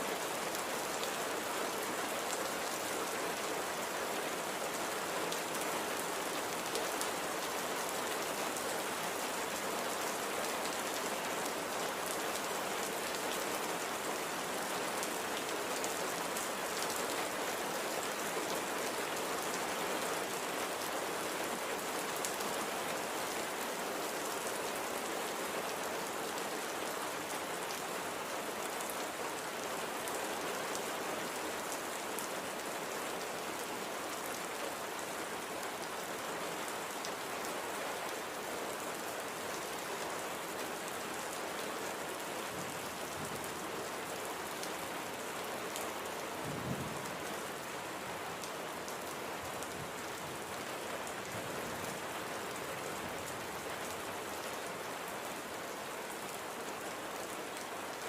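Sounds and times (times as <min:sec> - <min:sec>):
light rain hiss: 0:00.0 - 0:58.0.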